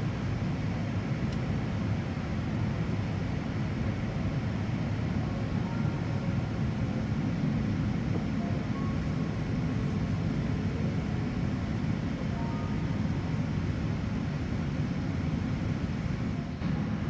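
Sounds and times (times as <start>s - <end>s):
airliner cabin engine and airflow noise: 0.0s - 17.0s.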